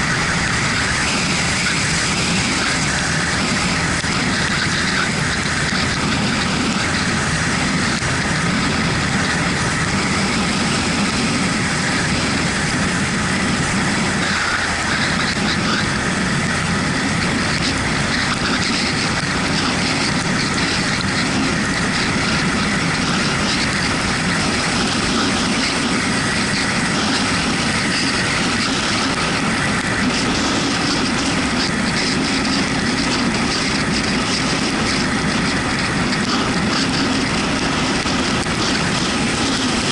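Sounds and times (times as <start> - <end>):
motorcycle engine running: 0.0 - 39.9
tyres on wet road: 0.0 - 39.9
wind: 0.0 - 39.9.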